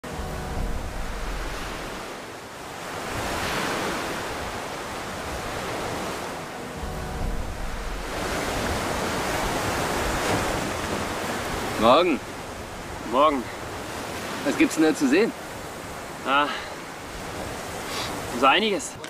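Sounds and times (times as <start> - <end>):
waves washing onto beach: 0.0 - 19.0
wind: 0.0 - 19.0.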